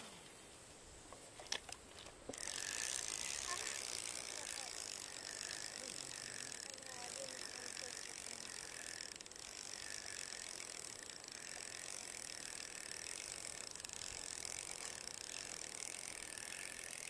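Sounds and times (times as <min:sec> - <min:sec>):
spinning reel gears whirring: 0:02.3 - 0:17.0.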